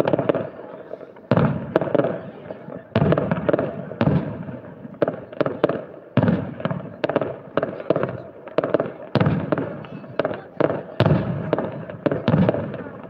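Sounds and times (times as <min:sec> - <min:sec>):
fireworks bangs with crackle: 0:00.0 - 0:13.0.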